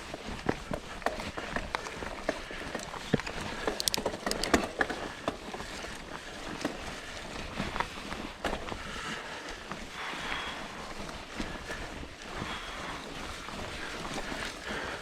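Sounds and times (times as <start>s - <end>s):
mountain bike rattling on dirt trail: 0.0s - 15.0s.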